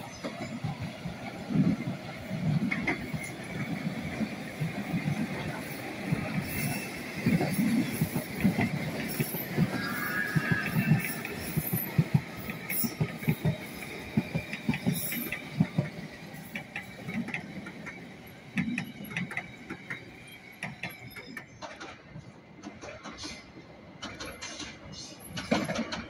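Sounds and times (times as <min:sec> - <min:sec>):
train wheels clattering over joints: 0:00.0 - 0:26.0.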